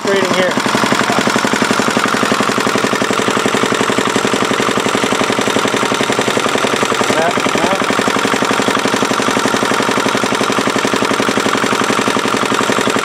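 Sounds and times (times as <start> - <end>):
diesel engine firing beat: 0.0 - 13.0.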